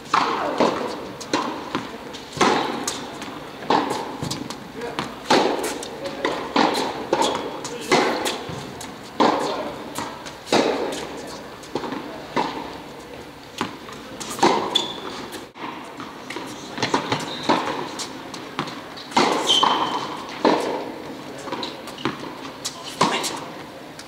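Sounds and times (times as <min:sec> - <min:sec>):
tennis balls struck and bouncing: 0:00.0 - 0:24.0
shoes squeaking on court: 0:00.1 - 0:23.6.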